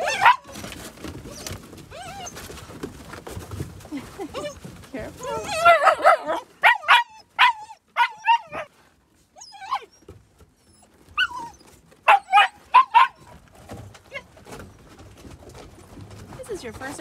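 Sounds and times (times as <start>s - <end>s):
puppies yapping and barking: 0.0s - 17.0s.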